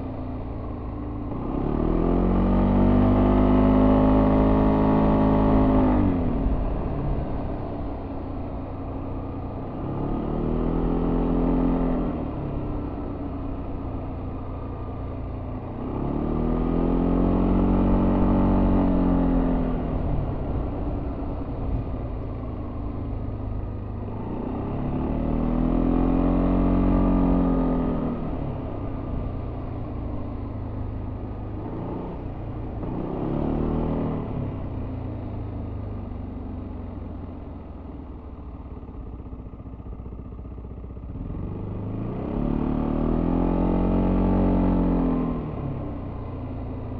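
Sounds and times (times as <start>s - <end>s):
scooter engine while riding: 0.0s - 46.9s.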